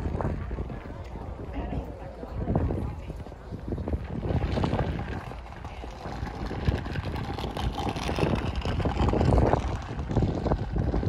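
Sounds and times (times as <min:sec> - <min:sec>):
boat engine rumble: 0:00.0 - 0:11.0
waterfront ambience: 0:00.0 - 0:11.0.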